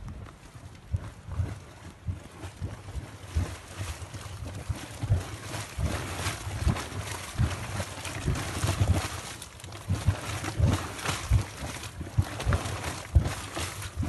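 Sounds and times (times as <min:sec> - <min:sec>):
boiling mud bubbling: 0:00.0 - 0:14.0.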